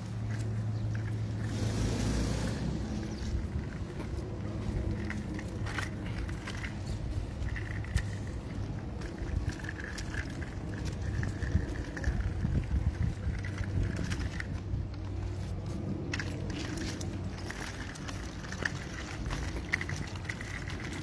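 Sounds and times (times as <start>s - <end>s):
stroller wheels rattling on pavement: 0.0s - 21.0s.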